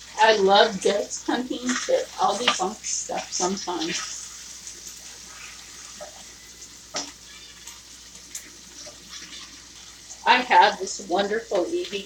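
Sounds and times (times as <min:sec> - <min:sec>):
sausages sizzling in a pan: 0:00.0 - 0:12.0.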